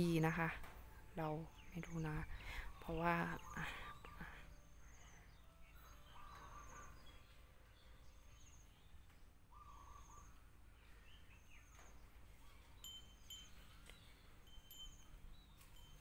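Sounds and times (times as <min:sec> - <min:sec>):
distant bird calls: 0:00.2 - 0:16.0.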